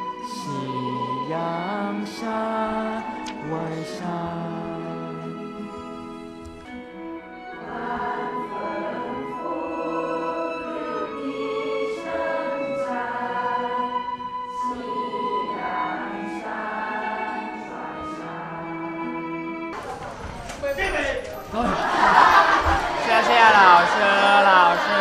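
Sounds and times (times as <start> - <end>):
group of people singing: 0.0 - 19.8, 21.5 - 25.0.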